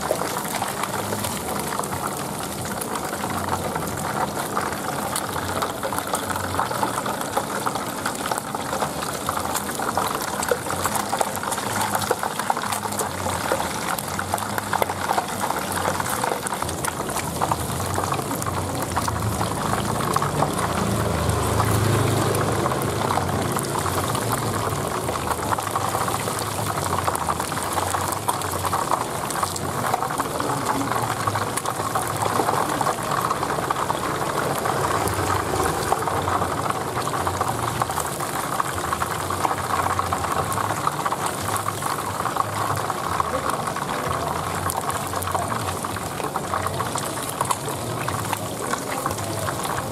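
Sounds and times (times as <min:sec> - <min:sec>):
hot oil sizzling and bubbling: 0:00.0 - 0:49.9.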